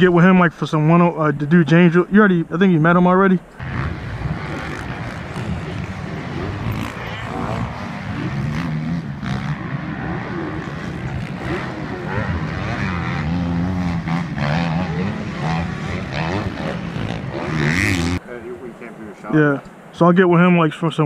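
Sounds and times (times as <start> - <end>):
motocross bike engines revving: 3.1 - 20.0.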